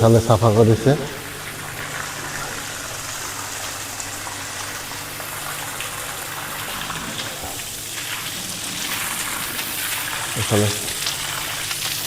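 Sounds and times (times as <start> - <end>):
water gushing on floor: 0.0 - 12.0.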